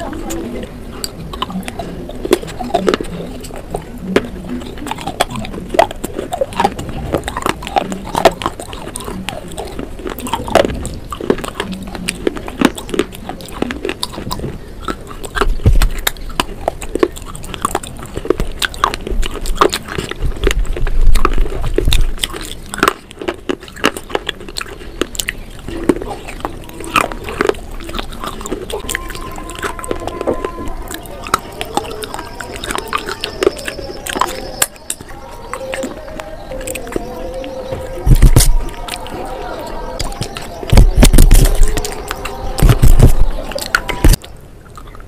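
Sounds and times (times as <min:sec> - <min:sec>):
crunching brittle clay pieces: 0:00.0 - 0:44.2
wet mouth sounds: 0:00.0 - 0:45.0.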